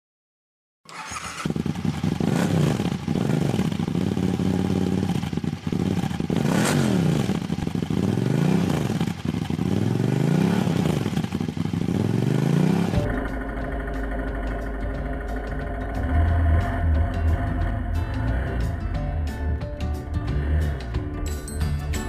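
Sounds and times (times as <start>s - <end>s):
motorcycle engine revving: 0.9s - 21.3s.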